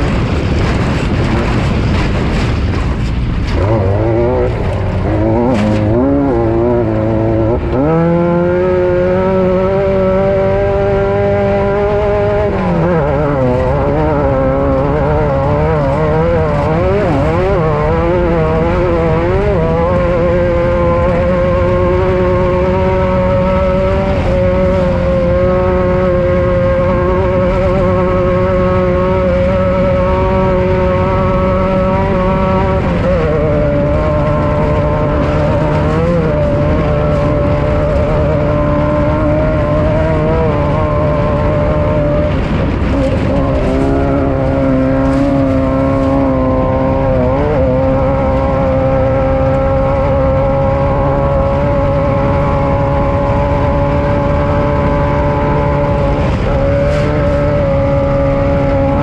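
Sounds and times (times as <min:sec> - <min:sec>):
loud vehicle engine running: 0:00.0 - 0:59.0.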